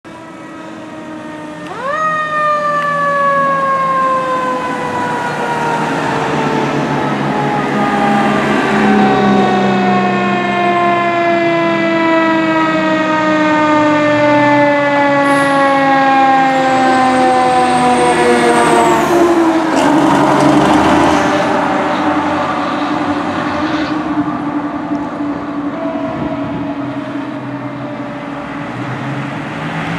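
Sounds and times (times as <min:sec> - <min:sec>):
fire engine siren: 0:00.0 - 0:29.9
truck engine rumble: 0:00.1 - 0:29.9.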